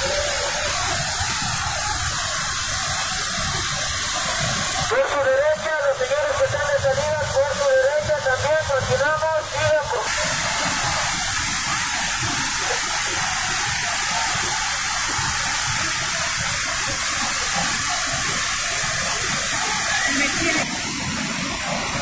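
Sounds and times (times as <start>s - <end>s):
waterfall rushing water: 0.0s - 22.0s.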